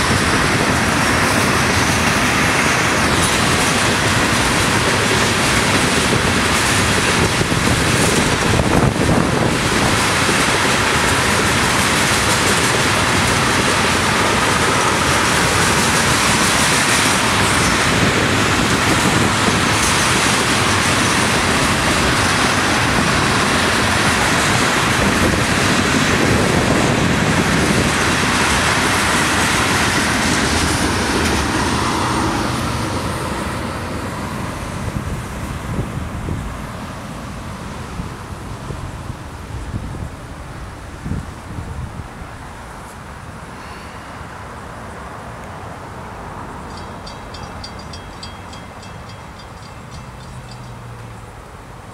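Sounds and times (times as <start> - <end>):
train wheels on rails: 0.0 - 51.9.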